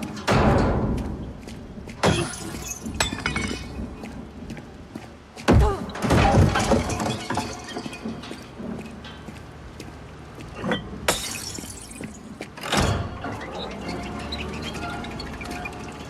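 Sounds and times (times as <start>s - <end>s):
rattling and clinking debris: 0.0s - 4.1s, 6.0s - 9.7s, 10.5s - 16.0s.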